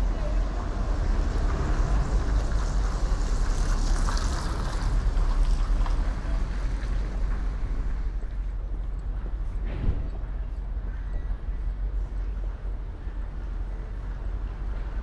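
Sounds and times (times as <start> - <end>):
low city rumble: 0.0 - 15.0
street and harbour noise: 0.0 - 15.0.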